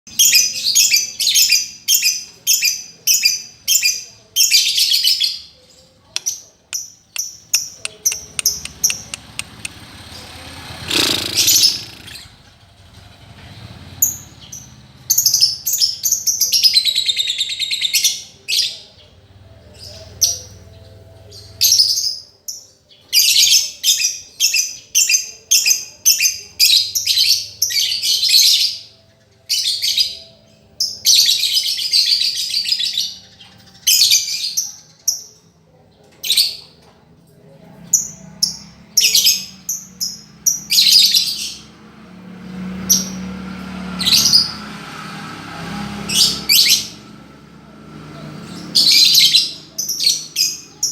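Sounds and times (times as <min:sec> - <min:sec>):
lovebird singing: 0:00.1 - 0:12.6, 0:14.0 - 0:35.6, 0:37.6 - 0:44.7, 0:48.3 - 0:50.9.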